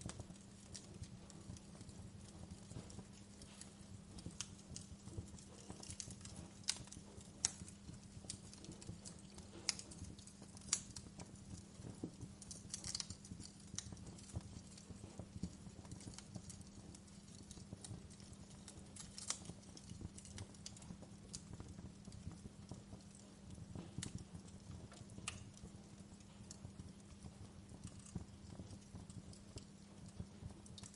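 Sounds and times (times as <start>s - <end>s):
fire crackling and popping: 0.0s - 30.9s.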